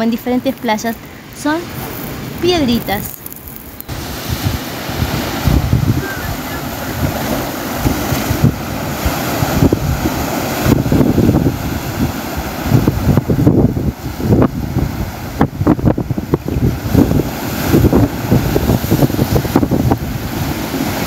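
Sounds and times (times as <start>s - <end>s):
wind buffeting microphone: 0.0s - 21.0s
sea waves breaking on rocks: 0.2s - 21.0s.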